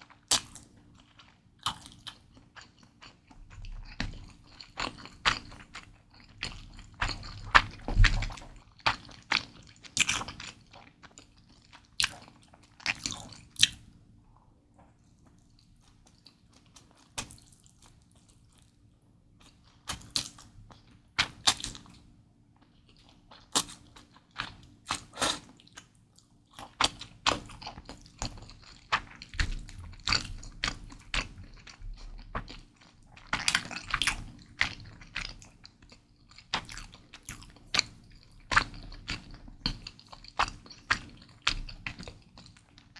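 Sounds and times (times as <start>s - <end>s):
wet chewing and smacking: 0.0s - 13.9s, 14.7s - 18.8s, 19.4s - 42.9s.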